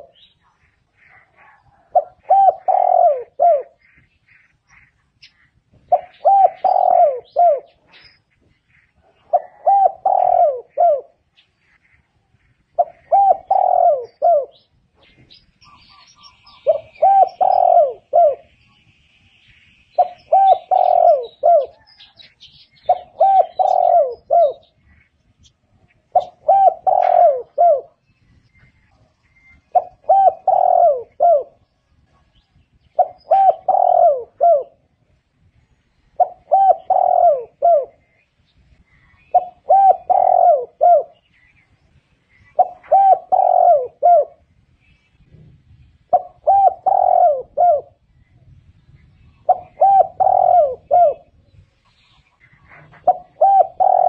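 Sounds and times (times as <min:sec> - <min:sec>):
dove cooing: 0:00.0 - 0:04.1, 0:04.7 - 0:18.6, 0:20.0 - 0:25.0, 0:26.0 - 0:28.0, 0:28.6 - 0:35.2, 0:36.1 - 0:38.2, 0:38.8 - 0:41.5, 0:42.3 - 0:44.5, 0:46.1 - 0:48.3, 0:49.4 - 0:54.0
small birds chirping: 0:00.0 - 0:54.0.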